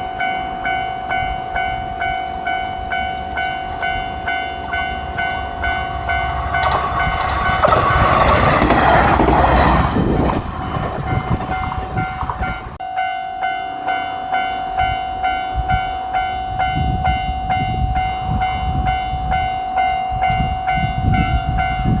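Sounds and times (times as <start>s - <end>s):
level crossing bell clanging: 0.0s - 22.0s
railcar engine and wheel noise: 0.0s - 22.0s.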